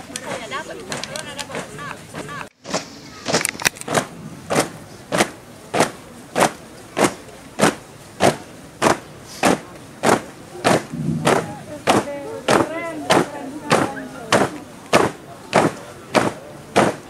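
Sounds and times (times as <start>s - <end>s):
marching footsteps on asphalt: 0.0s - 17.0s.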